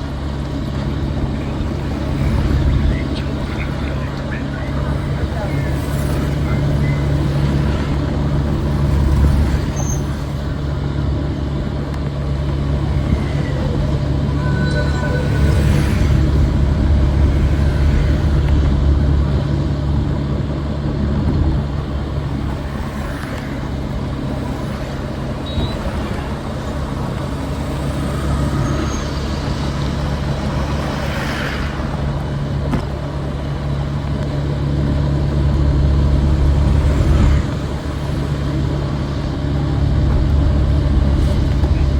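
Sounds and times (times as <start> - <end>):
low engine rumble: 0.0 - 41.9
vehicles passing by: 0.0 - 41.9.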